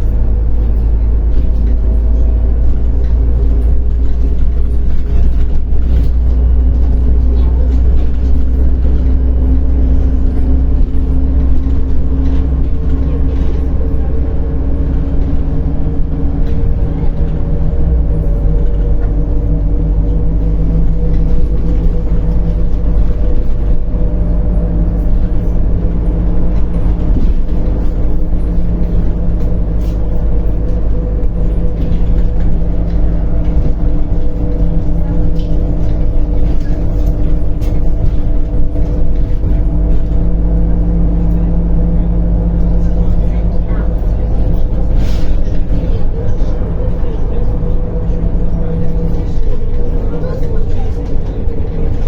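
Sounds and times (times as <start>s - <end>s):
bus diesel engine droning: 0.0s - 52.0s
low road rumble: 0.0s - 52.0s.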